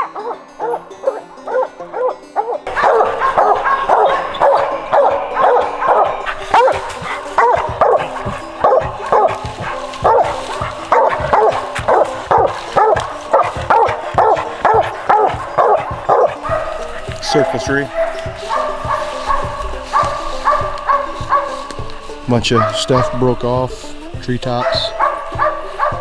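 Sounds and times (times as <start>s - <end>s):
dog barking: 0.0s - 23.5s, 24.5s - 26.0s.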